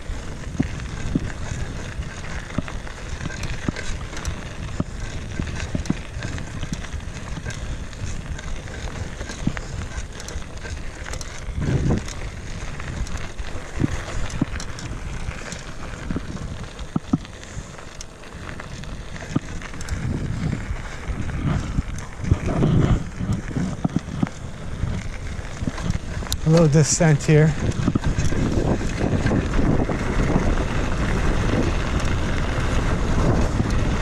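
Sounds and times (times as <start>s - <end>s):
bike knocking and rattling: 0.0s - 34.0s
bike tyres rumbling on dirt: 0.0s - 34.0s
wind buffeting microphone: 0.0s - 34.0s.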